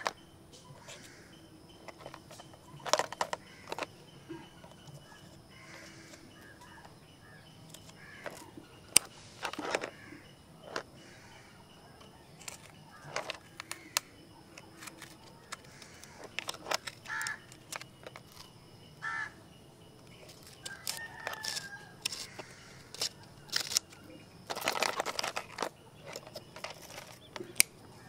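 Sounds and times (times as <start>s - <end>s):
bird calls: 0.0s - 28.0s.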